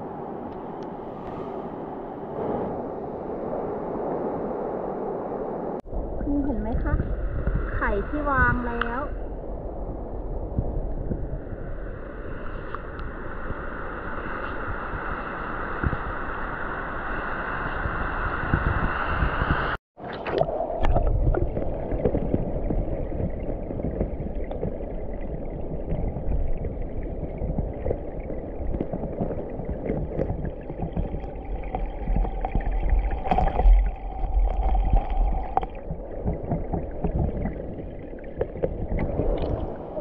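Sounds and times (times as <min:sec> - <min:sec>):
underwater creek rushing: 0:00.0 - 0:40.0
deep rumble: 0:01.2 - 0:19.8, 0:20.4 - 0:40.0.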